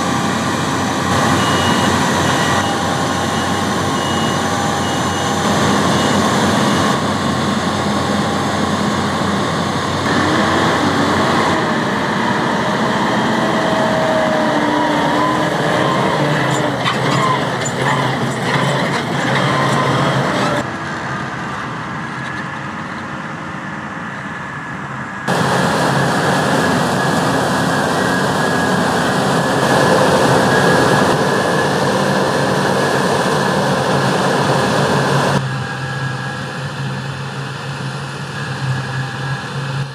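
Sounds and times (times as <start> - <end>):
combine harvester running: 0.0 - 39.9
tractors running: 0.0 - 39.9
wavering machine whine: 0.0 - 39.9.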